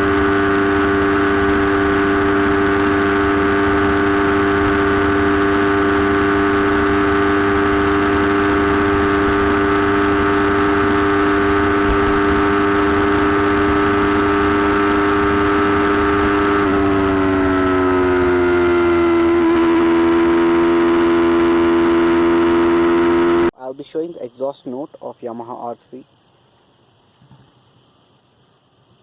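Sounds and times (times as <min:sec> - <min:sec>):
motorcycle engine whining at high revs: 0:00.0 - 0:23.6.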